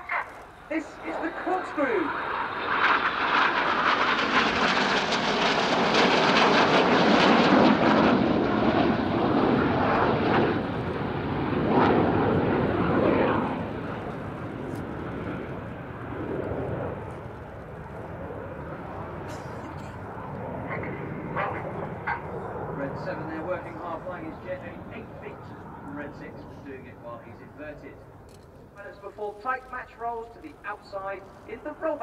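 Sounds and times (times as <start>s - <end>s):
jets flying past: 0.6s - 28.3s.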